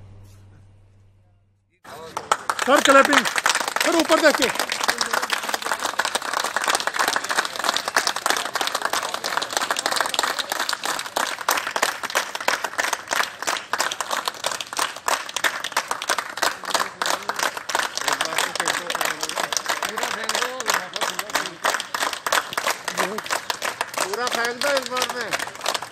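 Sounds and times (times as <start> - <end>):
crowd applauding: 1.8 - 25.9.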